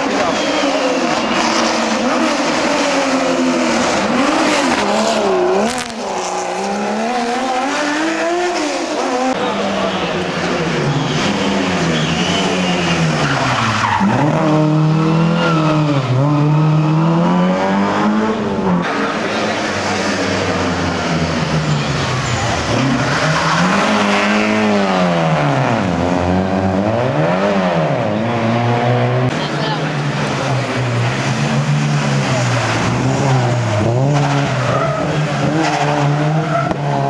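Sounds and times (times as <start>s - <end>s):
car engine revving hard: 0.0s - 9.6s, 10.4s - 37.0s.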